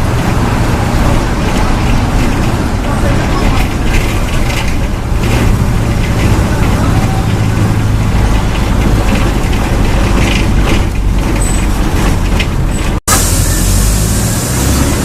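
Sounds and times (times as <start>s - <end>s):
bus engine running: 0.0s - 15.0s.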